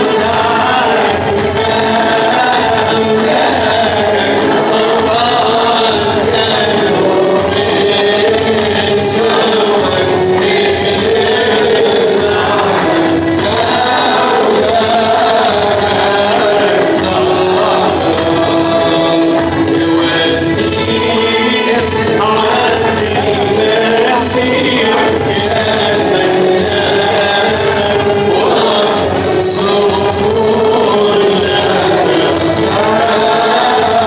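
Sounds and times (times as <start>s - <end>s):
instrumental accompaniment: 0.0s - 34.0s
men singing a hymn: 0.0s - 34.0s
steady percussion beat: 0.0s - 34.0s.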